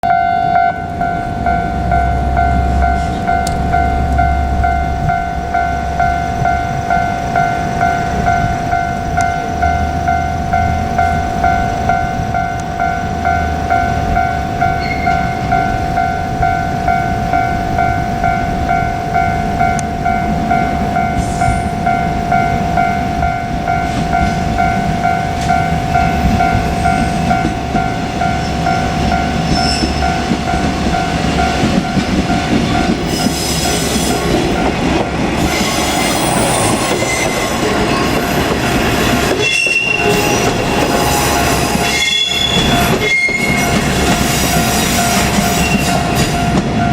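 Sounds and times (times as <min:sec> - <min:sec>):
level crossing warning bell: 0:00.0 - 0:46.9
train wheel and engine noise: 0:00.0 - 0:46.9.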